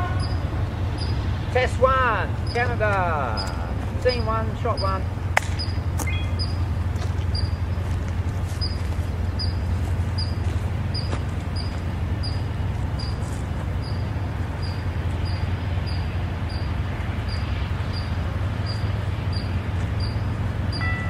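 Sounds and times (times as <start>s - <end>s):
diesel locomotive rumbling: 0.0s - 21.0s.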